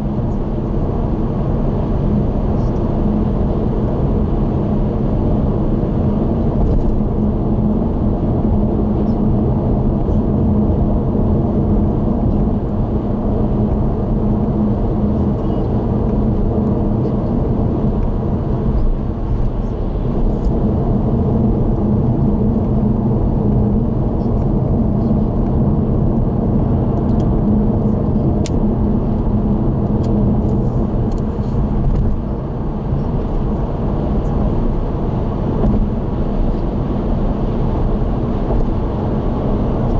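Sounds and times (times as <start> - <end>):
car driving heard from inside: 0.0 - 39.9.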